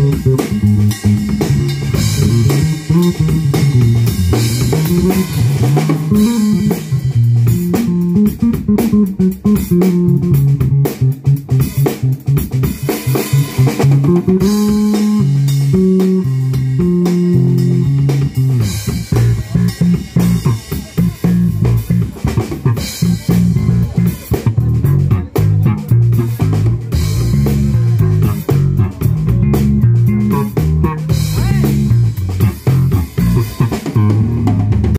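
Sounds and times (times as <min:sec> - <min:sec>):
bass guitar line: 0:00.0 - 0:34.9
drum backing: 0:00.0 - 0:34.9.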